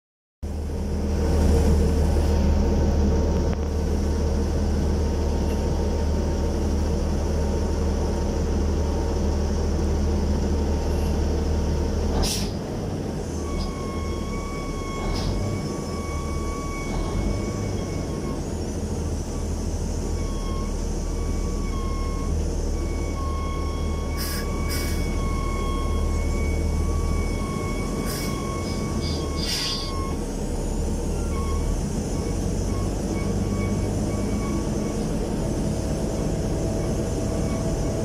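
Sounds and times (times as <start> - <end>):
crane machinery low rumble: 0.4 - 38.0.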